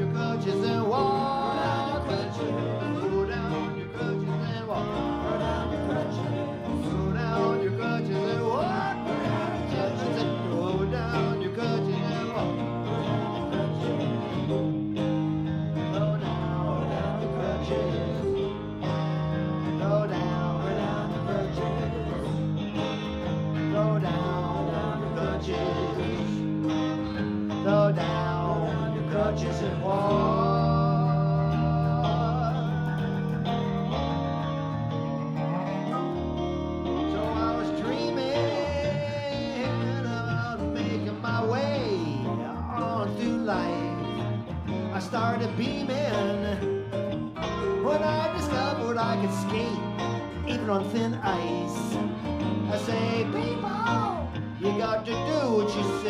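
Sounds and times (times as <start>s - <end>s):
lead guitar bending notes: 0.0s - 56.0s
live band instrumental: 0.0s - 56.0s.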